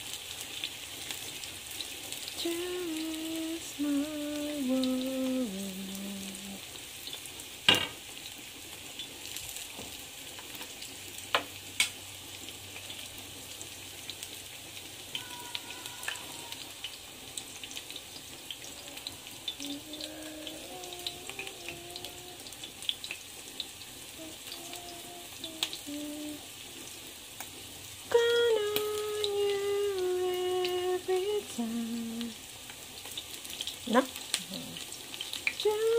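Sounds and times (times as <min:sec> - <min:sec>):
batter sizzling in oil: 0:00.0 - 0:35.9.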